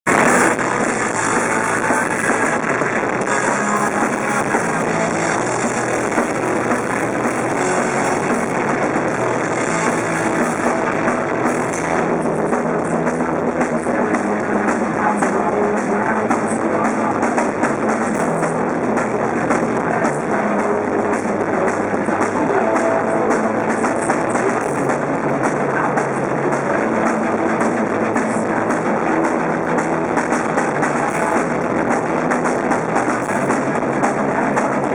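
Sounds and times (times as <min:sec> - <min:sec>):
distorted electric guitars: 0:00.0 - 0:34.9
drum kit: 0:00.0 - 0:34.9
electric bass: 0:00.0 - 0:34.9.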